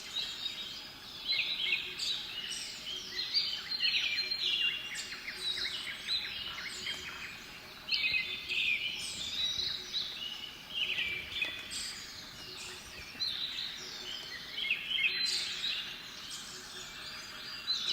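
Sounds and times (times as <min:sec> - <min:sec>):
songbirds singing: 0:00.0 - 0:17.9
steady background hiss: 0:00.0 - 0:17.9.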